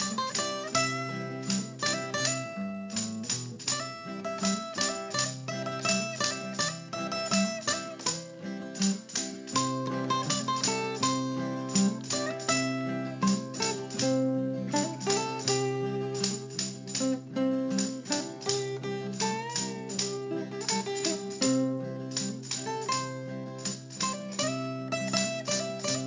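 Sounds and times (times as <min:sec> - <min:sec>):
plucked guitar music: 0:00.0 - 0:26.0.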